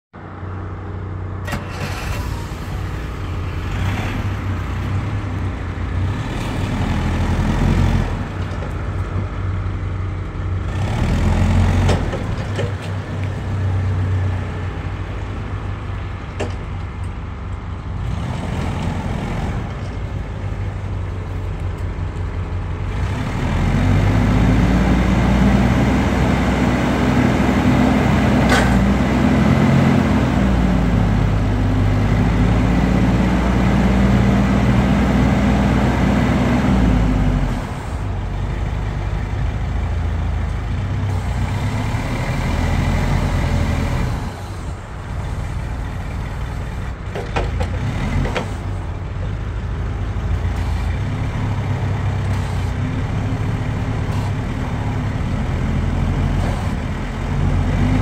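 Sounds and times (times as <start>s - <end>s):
forklift engine running: 0.2s - 58.0s.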